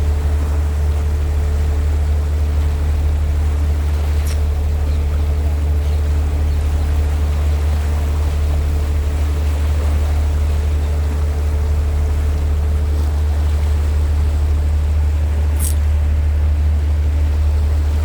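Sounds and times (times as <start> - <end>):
boat engine humming: 0.0 - 18.0
water rushing along hull: 0.0 - 18.0.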